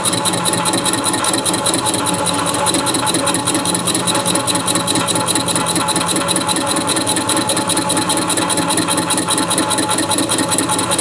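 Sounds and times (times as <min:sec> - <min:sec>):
machine tool cutting metal: 0:00.0 - 0:11.0.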